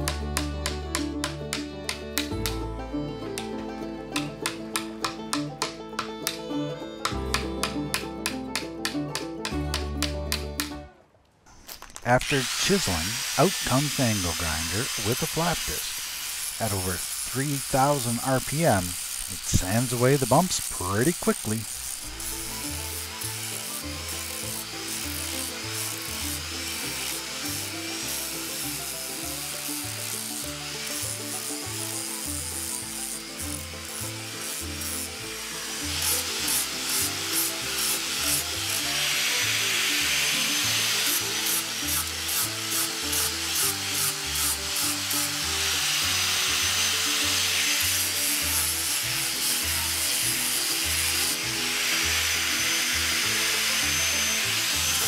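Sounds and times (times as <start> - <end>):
angle grinder sanding wood: 0.0 - 10.1, 12.0 - 55.0.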